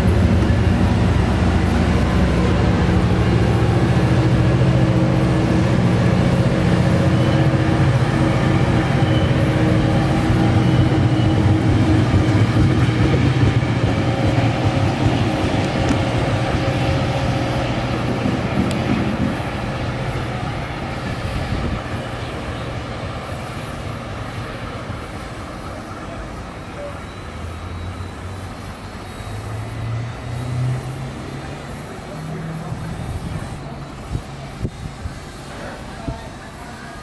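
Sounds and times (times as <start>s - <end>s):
diesel train engine drone: 0.0s - 37.0s
train cars rumbling over rails: 0.0s - 37.0s.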